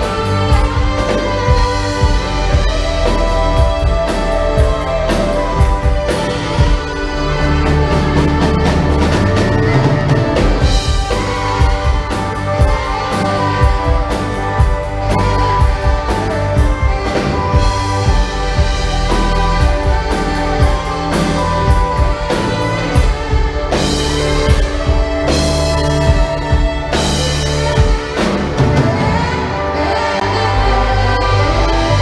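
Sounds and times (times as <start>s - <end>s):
drums steady beat: 0.0s - 32.0s
live band playing: 0.0s - 32.0s.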